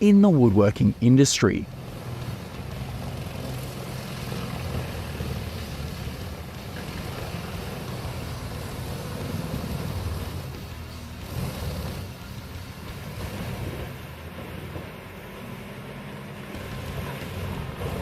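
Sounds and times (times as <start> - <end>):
grinder engine hum: 0.0 - 18.0.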